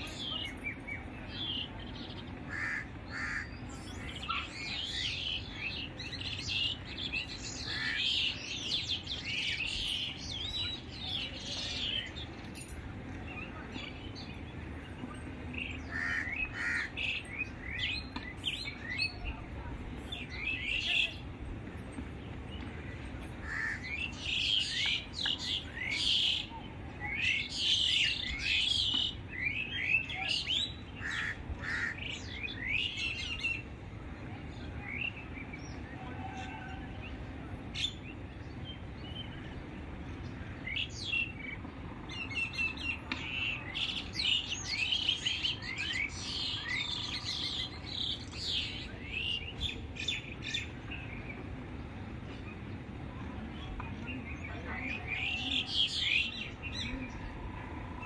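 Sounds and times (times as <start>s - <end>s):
songbirds chirping: 0.0s - 58.0s
steady low background noise: 0.0s - 58.0s.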